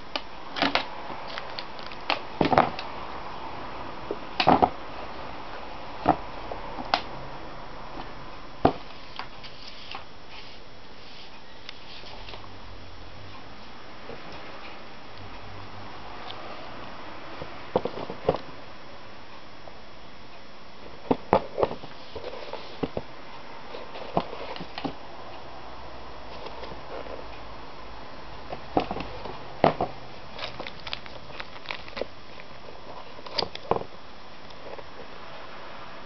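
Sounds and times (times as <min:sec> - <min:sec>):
steady hiss: 0:00.0 - 0:30.6.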